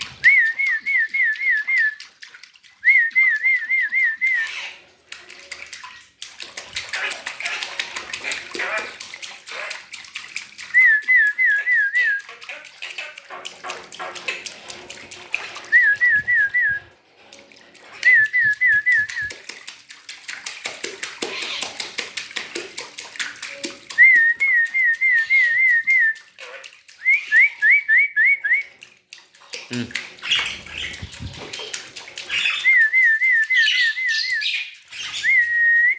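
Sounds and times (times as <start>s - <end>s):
water splashing: 0.0s - 35.9s.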